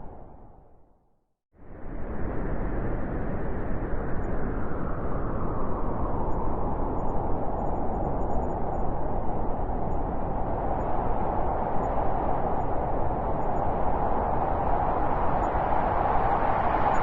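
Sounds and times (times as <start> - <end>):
whistling wind: 1.6 - 17.0
blizzard wind rushing: 1.7 - 17.0.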